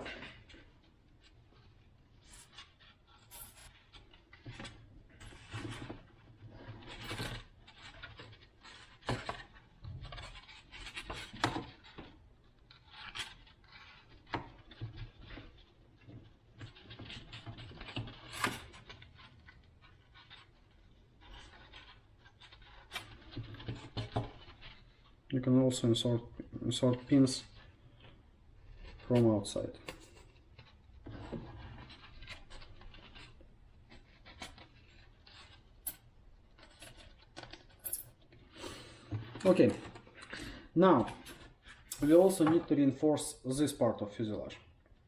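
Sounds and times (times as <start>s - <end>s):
plastic scraping and rustling: 0.0s - 45.0s.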